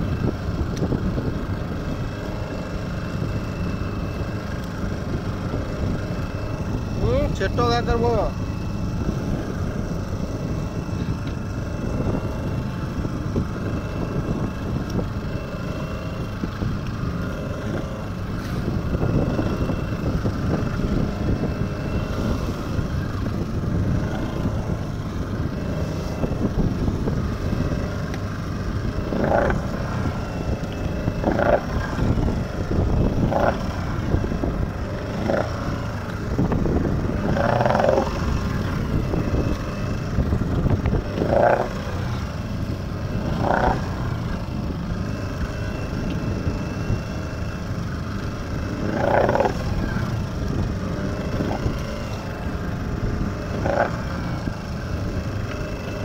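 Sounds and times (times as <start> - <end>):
boat motor rumble: 0.0 - 56.0
wind: 0.0 - 56.0.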